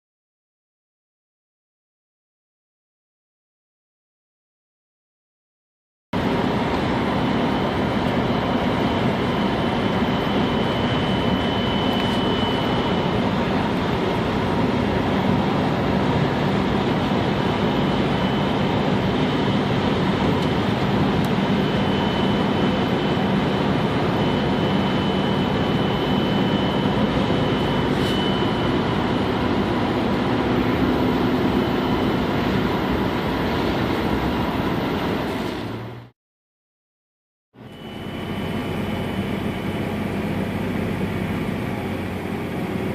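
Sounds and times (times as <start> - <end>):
high pure whine: 6.2 - 36.1, 37.6 - 42.9.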